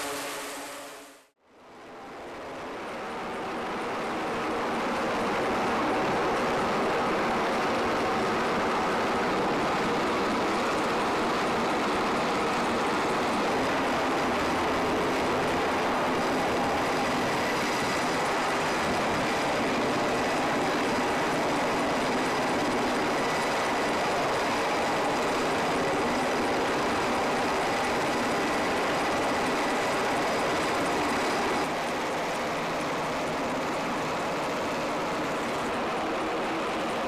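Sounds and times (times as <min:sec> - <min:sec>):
helicopter rotor and engine noise: 0:00.0 - 0:37.0
helicopter turbine whine: 0:00.0 - 0:37.0.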